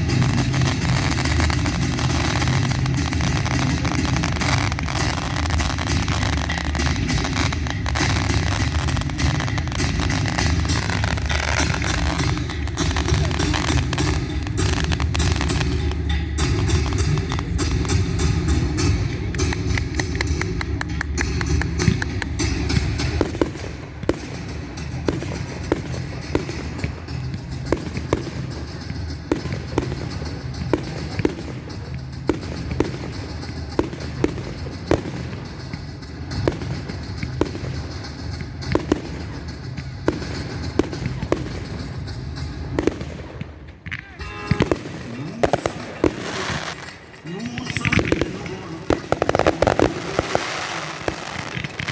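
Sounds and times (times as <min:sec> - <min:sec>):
fireworks bangs: 0:00.0 - 0:51.9
music playing: 0:00.0 - 0:51.9.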